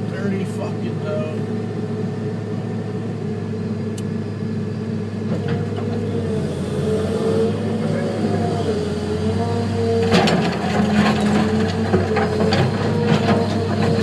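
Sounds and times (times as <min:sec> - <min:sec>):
heavy diesel engines under load: 0:00.0 - 0:14.0.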